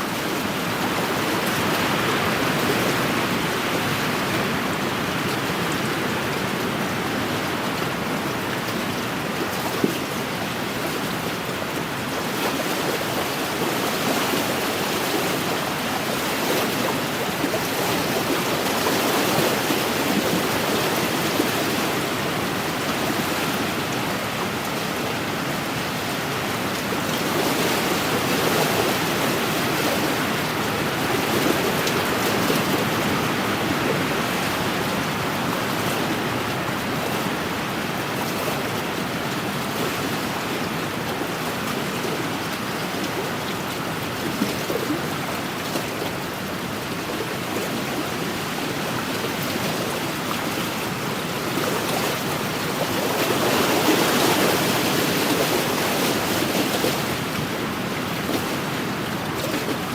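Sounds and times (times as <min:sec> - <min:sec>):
small waves washing ashore: 0:00.0 - 0:59.9.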